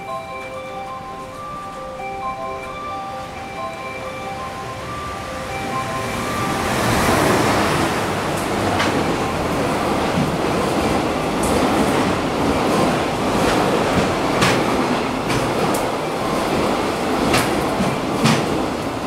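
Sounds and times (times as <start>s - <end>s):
train wheels rumbling on rail: 0.0s - 19.0s
wheels clacking over rail joints: 0.0s - 19.0s.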